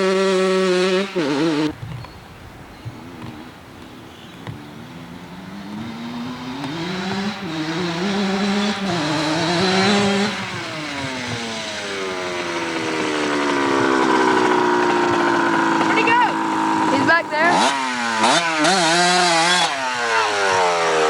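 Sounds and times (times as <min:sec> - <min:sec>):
dirt bike engine passing by: 0:00.0 - 0:01.8, 0:02.9 - 0:21.0.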